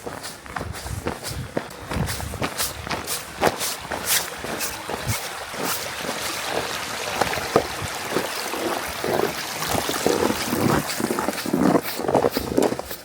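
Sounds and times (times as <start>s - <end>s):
footsteps crunching in snow: 0.0s - 13.0s
stream water running: 0.0s - 13.0s.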